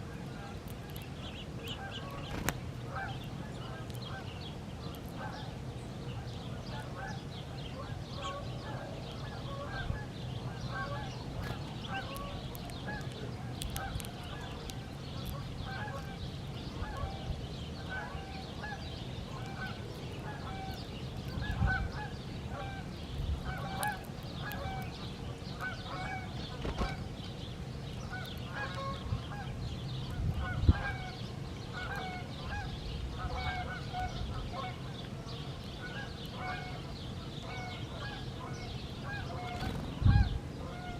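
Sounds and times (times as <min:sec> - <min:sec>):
flock of birds calling: 0:05.1 - 0:40.9.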